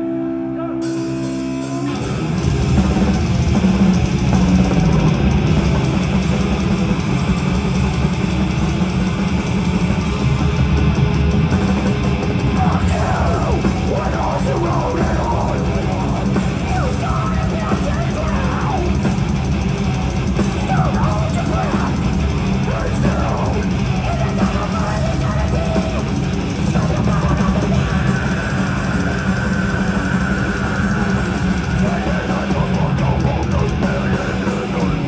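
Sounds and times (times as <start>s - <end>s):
heavy metal band playing live: 0.0s - 35.0s.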